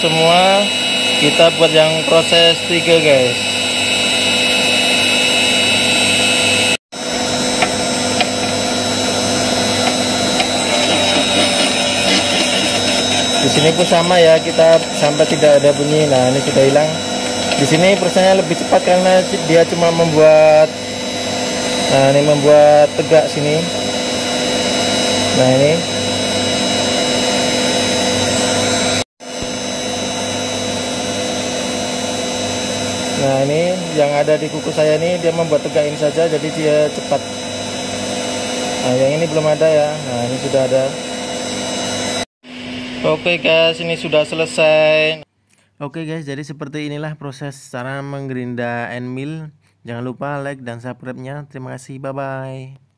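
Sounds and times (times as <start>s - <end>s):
sharpener motor humming and whining: 0.0s - 42.8s.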